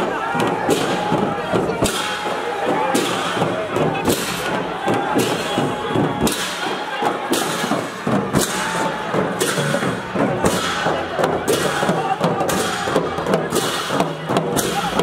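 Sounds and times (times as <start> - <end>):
men shouting and calling: 0.0 - 15.0
percussion beat with crashes: 0.0 - 15.0.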